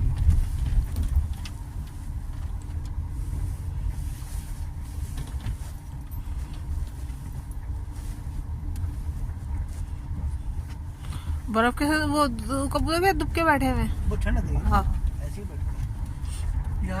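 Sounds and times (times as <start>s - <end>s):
car driving on road: 0.0s - 17.0s.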